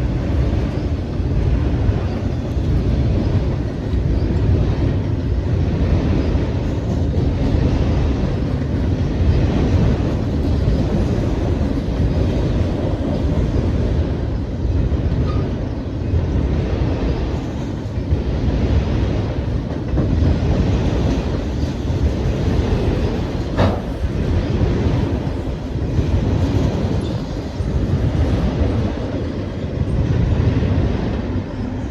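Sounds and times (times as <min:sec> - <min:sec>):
train cars rumbling over rails: 0:00.0 - 0:31.9.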